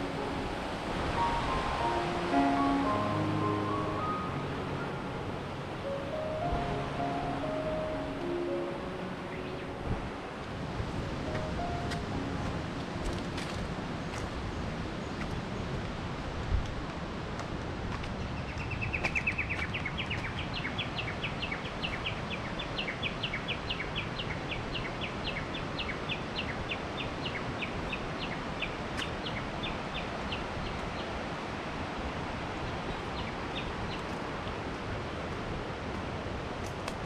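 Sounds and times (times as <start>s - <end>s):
rushing water: 0.0s - 37.0s.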